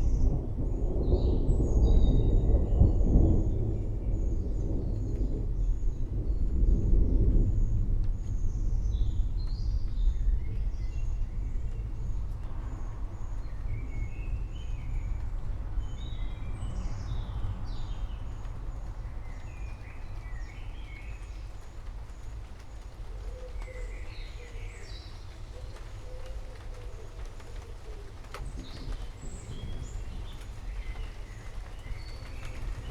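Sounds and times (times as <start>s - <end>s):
low thunder rumble: 0.0s - 32.9s.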